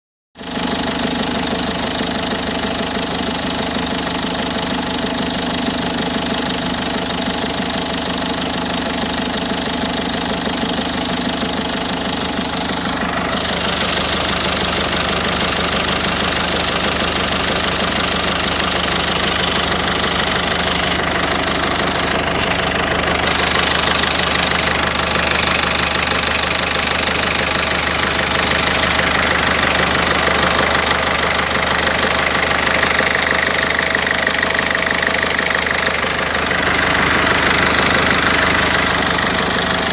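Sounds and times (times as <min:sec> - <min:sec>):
diesel engine knocking: 0:00.4 - 0:39.9.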